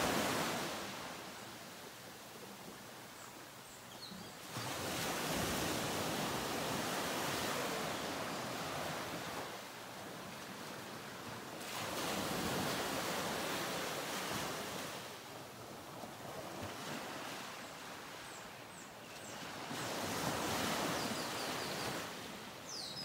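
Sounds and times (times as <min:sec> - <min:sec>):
ocean waves: 0:00.0 - 0:03.6, 0:04.3 - 0:23.0.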